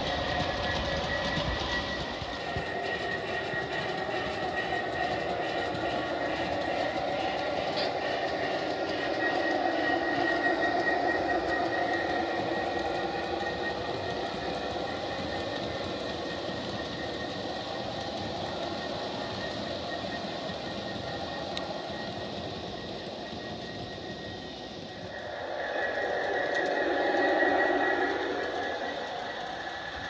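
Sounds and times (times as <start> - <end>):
thin high whine: 0.0 - 30.0
train wheels rumbling on rails: 0.0 - 30.0.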